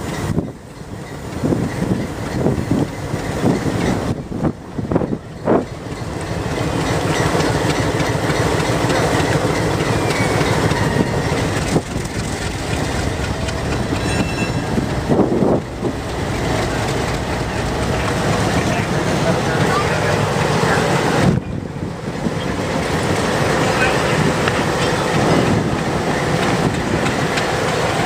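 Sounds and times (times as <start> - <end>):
train knocks: 0.0 - 28.0
train rolling on rails: 0.0 - 28.0.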